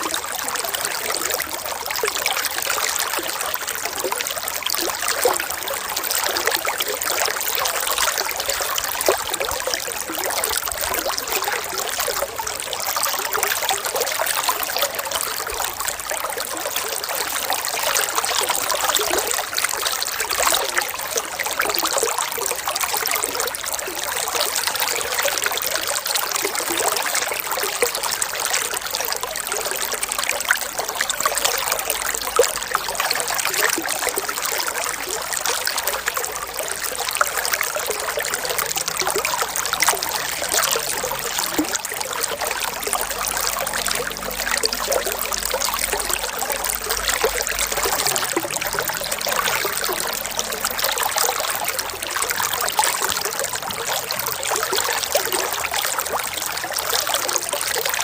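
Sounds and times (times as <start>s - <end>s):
water trickling and babbling: 0.0s - 58.0s.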